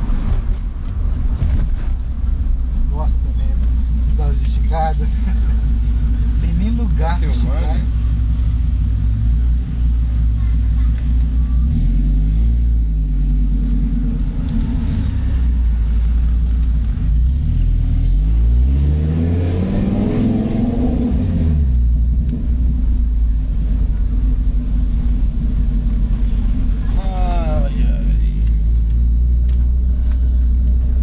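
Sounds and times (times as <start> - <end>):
loud car engine idling and revving: 0.0 - 31.0.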